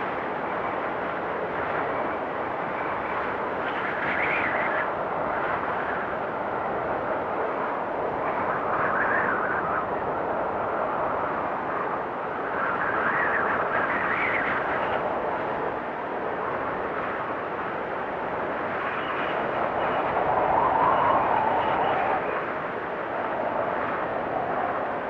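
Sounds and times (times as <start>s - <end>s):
strong wind gusting: 0.0s - 25.0s.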